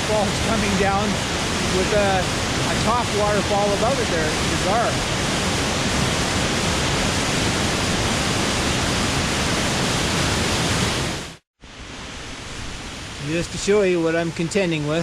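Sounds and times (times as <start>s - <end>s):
quieter rush of water: 0.0s - 15.0s
waterfall rushing: 0.0s - 15.0s.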